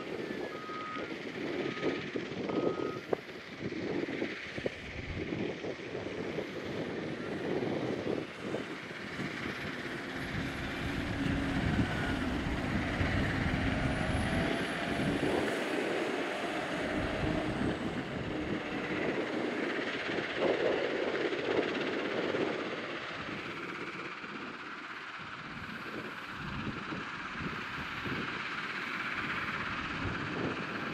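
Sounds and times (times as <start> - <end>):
loader diesel engine running: 0.0 - 30.9.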